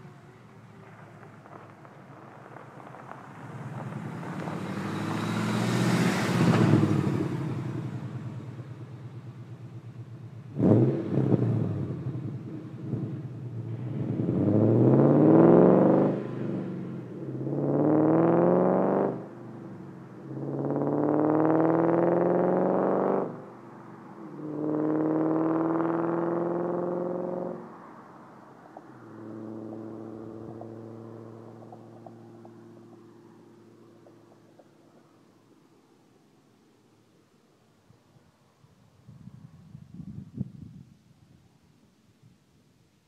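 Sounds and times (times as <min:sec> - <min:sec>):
car engine passing and accelerating: 0:00.0 - 0:37.5.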